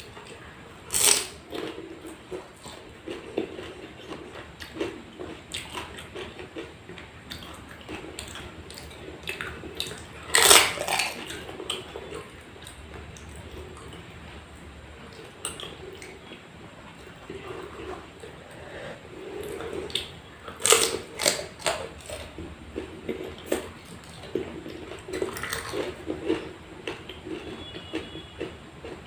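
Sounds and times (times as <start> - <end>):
biting and chewing food: 0.0 - 14.4, 15.0 - 29.0.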